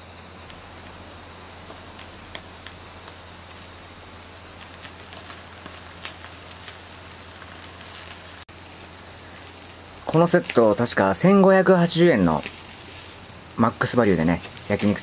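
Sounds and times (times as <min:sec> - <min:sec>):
meat sizzling on grill: 0:00.0 - 0:15.0
pops and crackles: 0:00.5 - 0:15.0.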